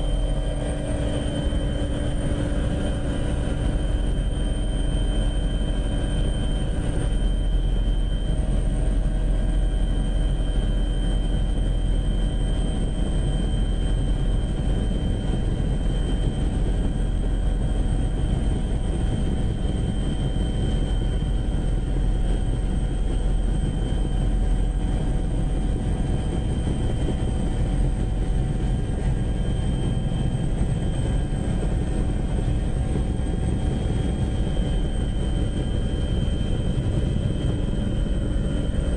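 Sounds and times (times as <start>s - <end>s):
aircraft engine drone: 0.0s - 38.9s.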